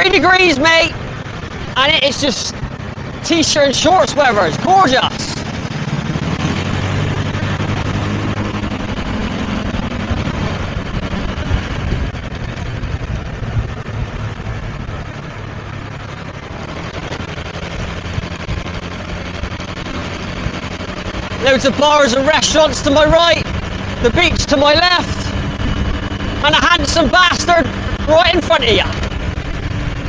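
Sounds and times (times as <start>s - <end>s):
motorbike engine humming: 0.0s - 30.0s
wind and road noise: 0.0s - 30.0s.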